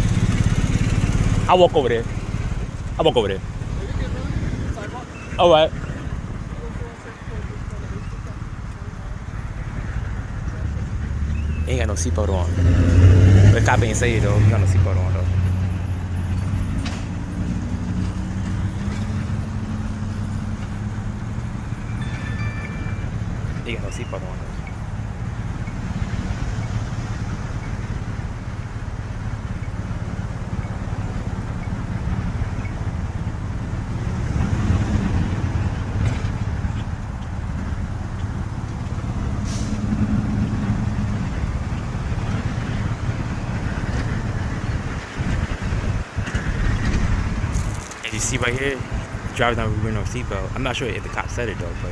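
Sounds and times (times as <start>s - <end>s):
road traffic rumble: 0.0s - 51.9s
vehicle engine humming: 0.0s - 51.9s.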